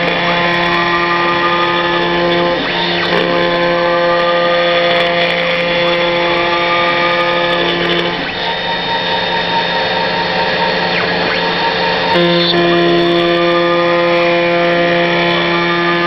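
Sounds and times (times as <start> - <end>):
cnc machine motor whine: 0.0 - 16.0.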